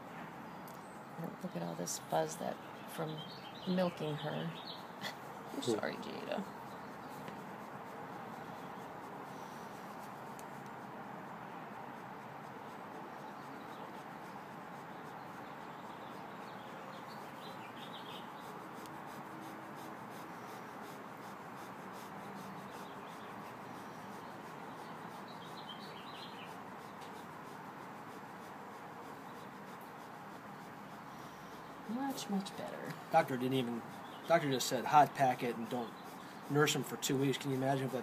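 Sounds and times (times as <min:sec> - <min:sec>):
cloth rubbing on fur: 0:01.2 - 0:38.0.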